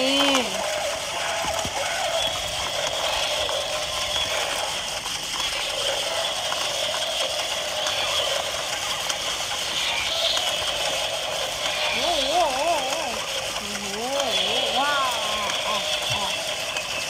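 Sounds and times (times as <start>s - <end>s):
toy electric motors running: 0.0s - 17.0s.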